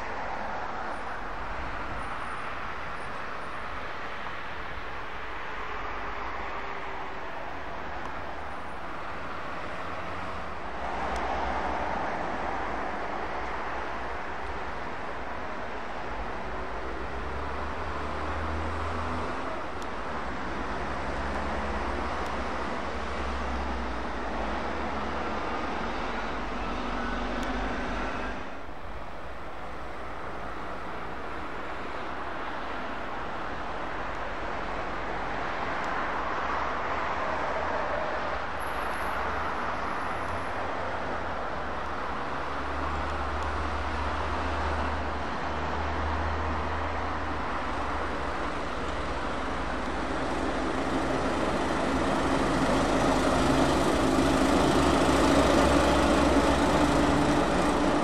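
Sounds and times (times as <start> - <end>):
diesel lorries passing: 0.0 - 58.0
rumble of engines and tyres: 0.0 - 58.0.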